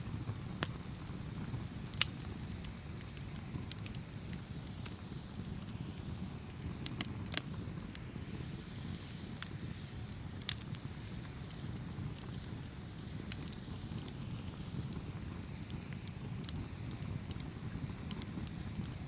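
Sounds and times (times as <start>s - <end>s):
burning wood crackling and popping: 0.0s - 19.0s
campfire flames rumbling: 0.0s - 19.0s.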